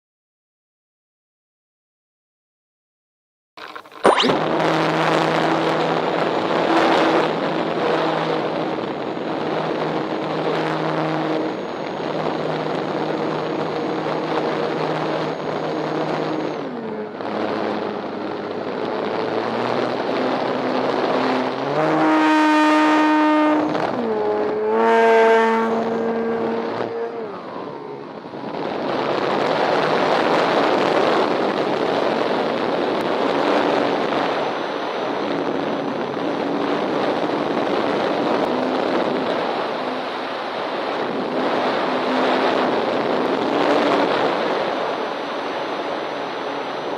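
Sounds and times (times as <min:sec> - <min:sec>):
model airplane engine: 0:03.6 - 0:46.9
wind rushing over microphone: 0:03.6 - 0:46.9.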